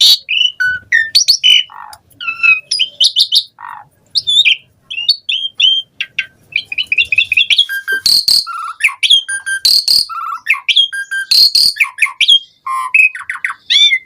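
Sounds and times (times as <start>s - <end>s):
bird singing whistles and chirps: 0.0s - 14.0s.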